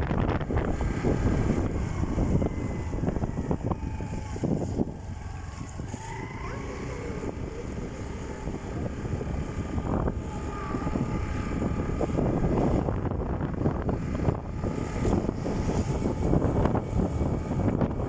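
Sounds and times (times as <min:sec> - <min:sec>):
vehicle road noise: 0:00.0 - 0:18.0
wind rumbling on microphone: 0:00.0 - 0:18.0.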